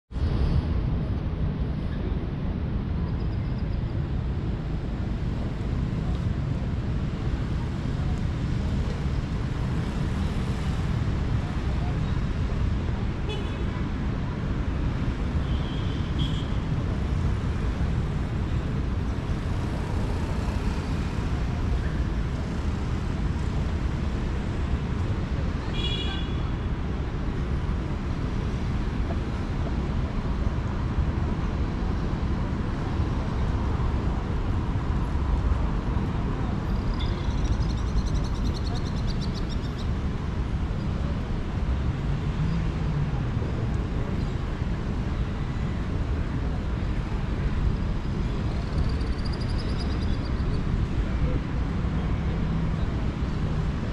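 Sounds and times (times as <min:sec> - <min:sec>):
city traffic rumble: 0:00.1 - 0:53.9.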